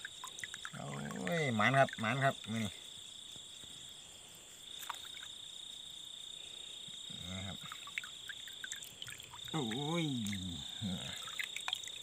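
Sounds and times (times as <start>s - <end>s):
high-pitched frog and insect trill: 0.0s - 12.0s.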